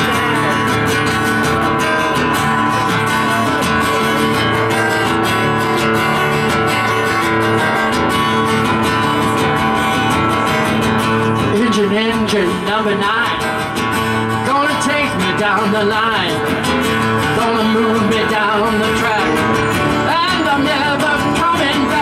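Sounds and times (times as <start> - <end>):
acoustic band with strummed guitars: 0.0 - 22.0.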